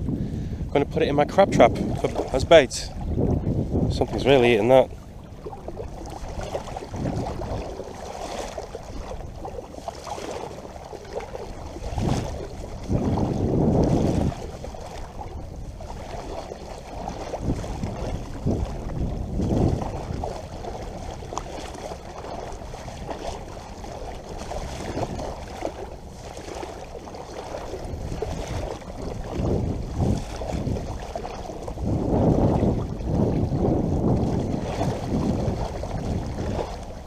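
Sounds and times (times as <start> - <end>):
water sloshing around wading legs: 1.2 - 37.0.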